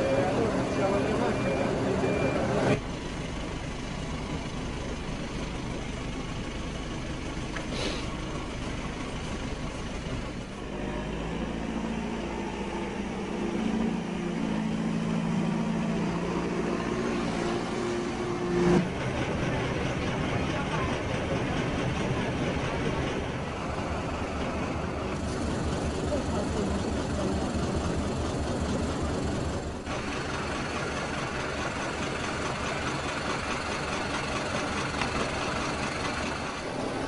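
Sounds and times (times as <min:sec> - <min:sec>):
engine hum: 0:00.0 - 0:37.0
vehicle engine running: 0:00.0 - 0:37.0.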